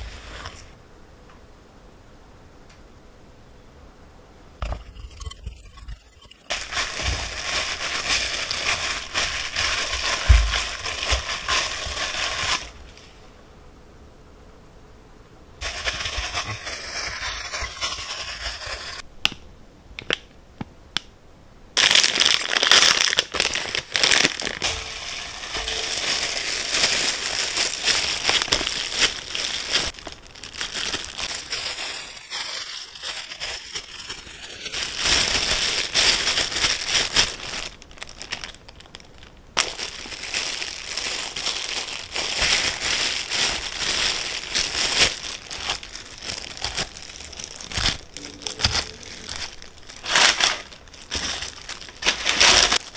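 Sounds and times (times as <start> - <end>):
plastic gloves crinkling: 0.0 - 0.8, 4.6 - 13.2, 15.6 - 19.1, 21.8 - 52.9.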